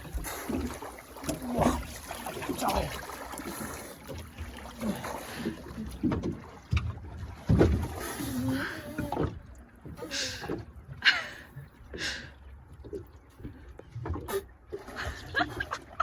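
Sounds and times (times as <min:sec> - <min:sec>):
water noise: 0:00.0 - 0:16.0.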